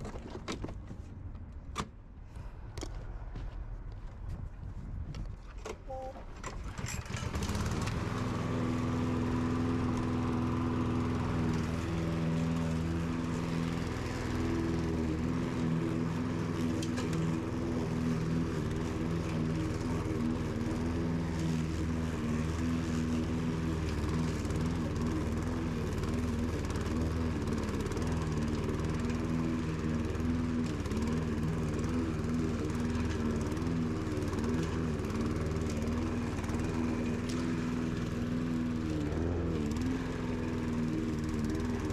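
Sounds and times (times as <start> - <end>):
lawn mower engine running: 5.9 - 41.9.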